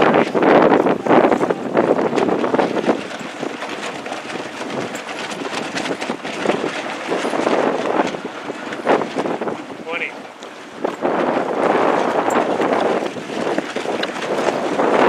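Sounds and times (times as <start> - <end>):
choppy water splashing: 0.0 - 15.0
wind buffeting microphone: 0.0 - 15.0.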